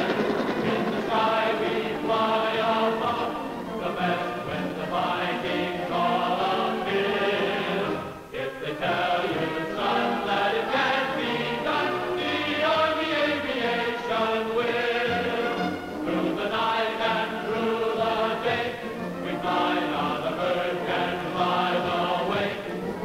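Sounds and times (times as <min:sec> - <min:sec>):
choir singing held notes: 0:00.0 - 0:23.0.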